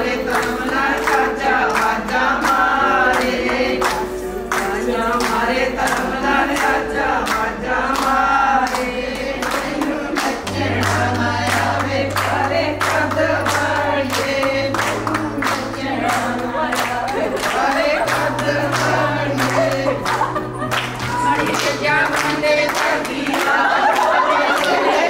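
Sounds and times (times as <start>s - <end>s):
group of voices singing: 0.0s - 25.0s.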